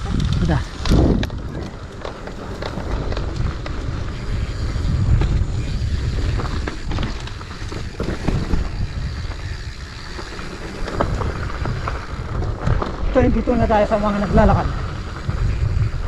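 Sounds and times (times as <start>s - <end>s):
mountain bike rattling: 0.0s - 16.0s
wind rumbling on microphone: 0.0s - 16.0s.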